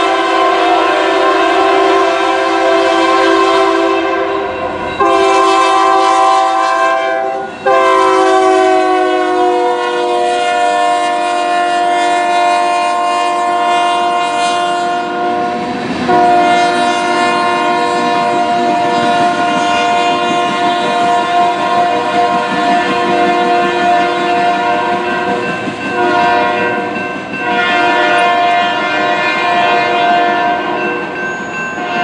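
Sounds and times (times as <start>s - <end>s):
locomotive air horn blasts: 0.0s - 31.1s, 31.8s - 32.0s.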